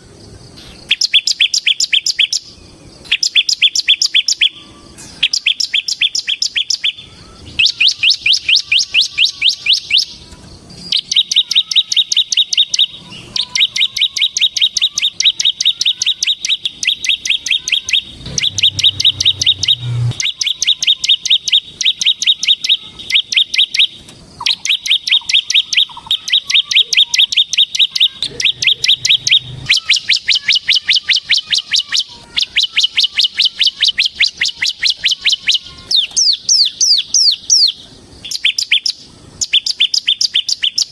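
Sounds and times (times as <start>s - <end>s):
bird trilling rapid sharp notes: 0.9s - 4.6s, 5.2s - 40.9s.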